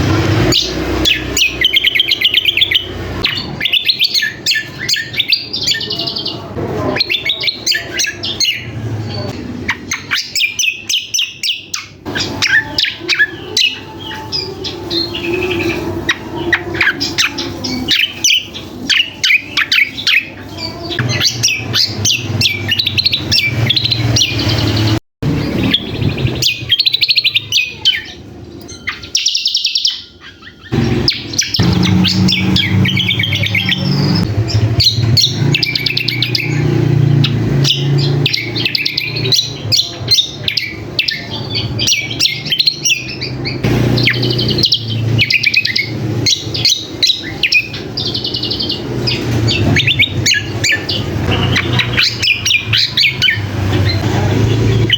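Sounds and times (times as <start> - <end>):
songbird chirps and trills: 0.0 - 54.9.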